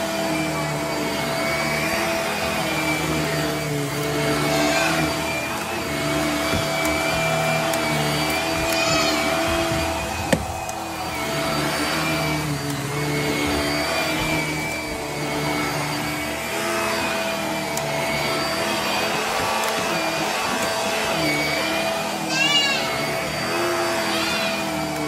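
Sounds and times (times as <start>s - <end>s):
vacuum cleaner motor drone: 0.0s - 25.0s.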